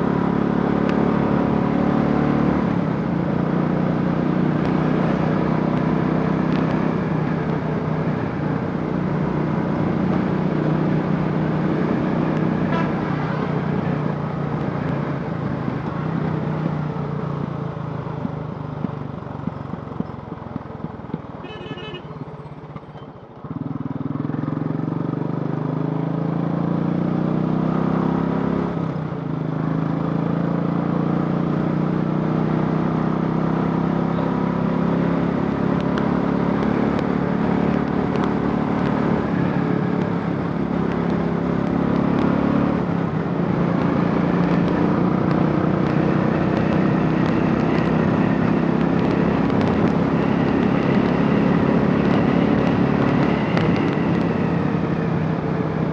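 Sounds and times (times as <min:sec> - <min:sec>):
motorcycle engine revving: 0:00.0 - 0:22.8, 0:23.4 - 0:55.9.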